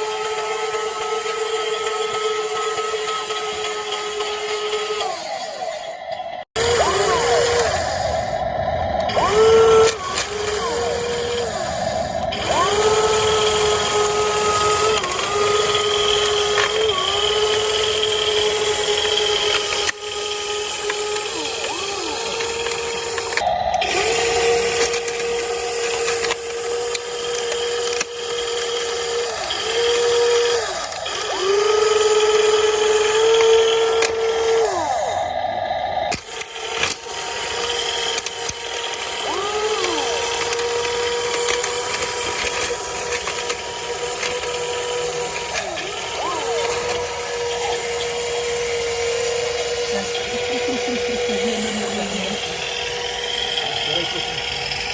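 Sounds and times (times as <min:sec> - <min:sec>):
electric motors whining: 0:00.0 - 0:54.9.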